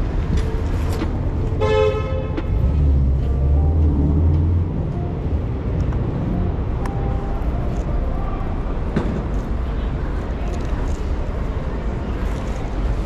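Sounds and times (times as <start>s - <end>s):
vehicles rumbling past: 0.0s - 13.0s.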